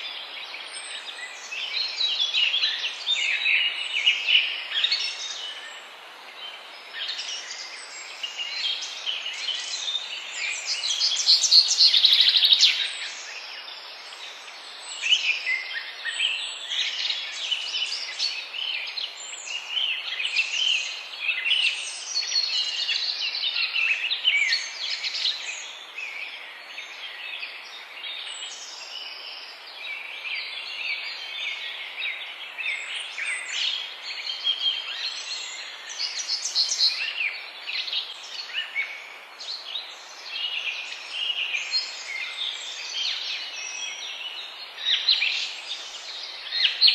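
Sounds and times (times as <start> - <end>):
songbirds singing and chirping: 0.0 - 46.9
steady background hiss: 0.0 - 46.9.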